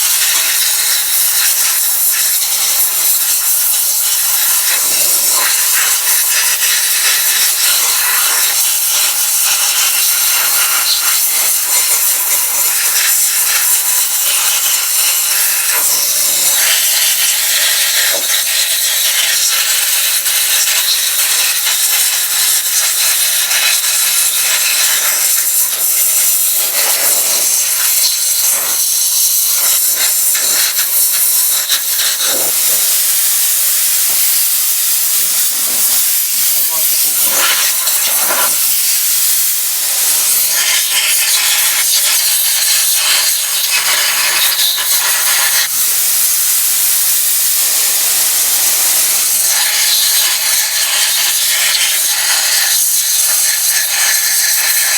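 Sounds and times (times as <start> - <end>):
media blaster hissing: 0.0 - 54.9.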